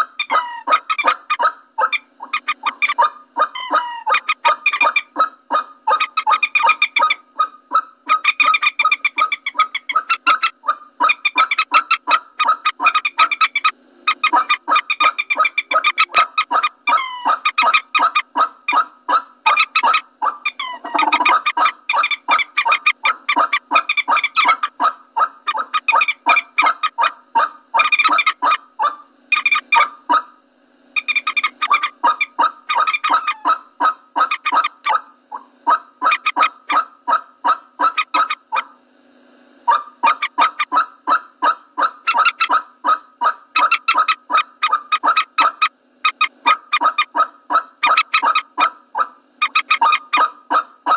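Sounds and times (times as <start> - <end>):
moorhen honking clucks: 0.0 - 30.3, 31.0 - 38.7, 39.7 - 50.9.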